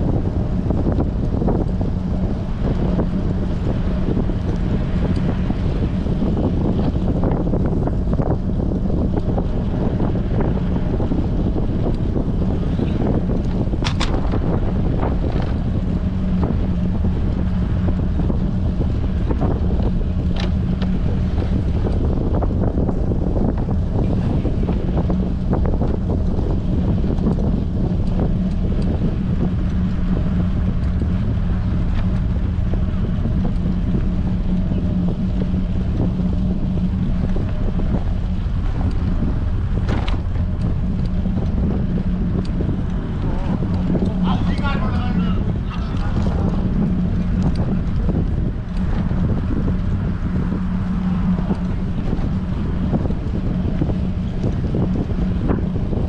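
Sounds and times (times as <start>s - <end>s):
constant low hum: 0.0s - 56.0s
wind buffeting microphone: 0.0s - 56.0s.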